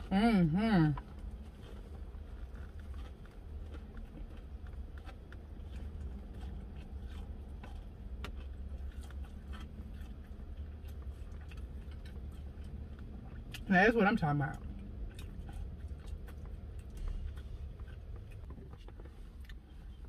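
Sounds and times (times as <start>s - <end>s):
low hum: 0.0s - 20.0s
crunchy chewing: 0.8s - 20.0s.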